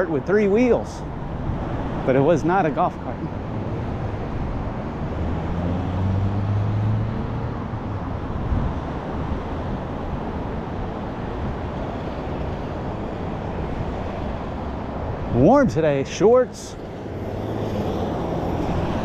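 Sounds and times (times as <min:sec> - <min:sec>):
road traffic noise: 0:00.0 - 0:19.0
vehicle engine hum: 0:00.0 - 0:19.0.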